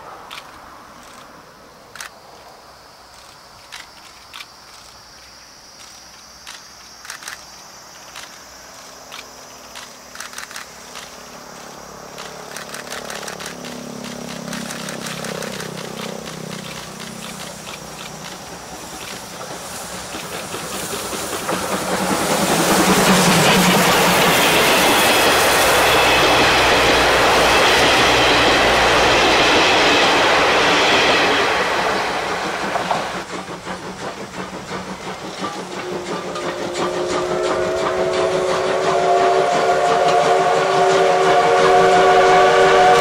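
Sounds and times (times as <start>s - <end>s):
steam locomotive exhaust beats: 0.0s - 43.0s
train rushing past: 0.0s - 43.0s.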